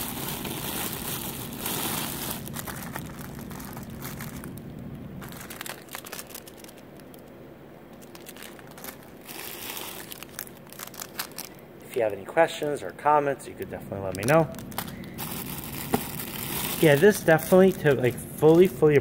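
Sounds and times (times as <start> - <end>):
plastic packaging crinkling: 0.0 - 12.1, 14.0 - 18.7.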